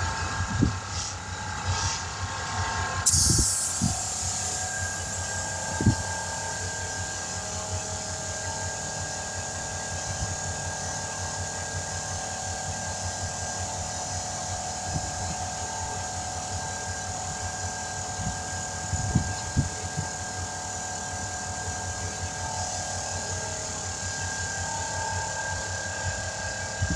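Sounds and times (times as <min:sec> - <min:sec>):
air compressor pulsing: 0:00.0 - 0:26.9.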